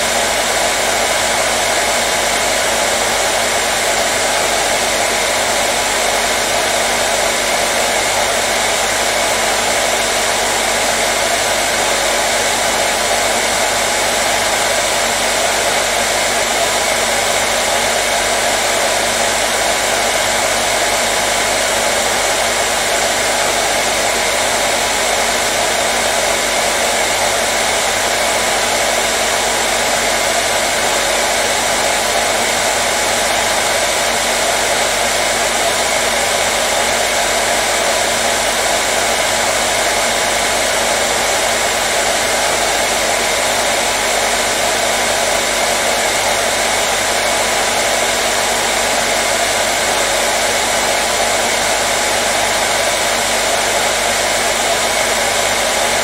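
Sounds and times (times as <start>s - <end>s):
hairdryer running: 0.0s - 56.0s.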